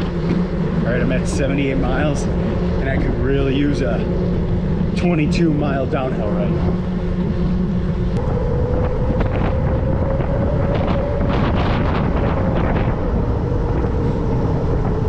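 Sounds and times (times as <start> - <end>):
road noise: 0.0 - 15.0
steady hum: 0.0 - 15.0
wind buffeting microphone: 0.0 - 15.0.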